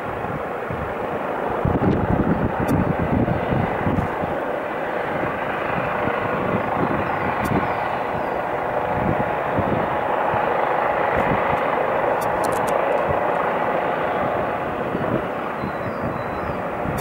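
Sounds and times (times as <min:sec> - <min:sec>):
helicopter hovering: 0:00.0 - 0:17.0.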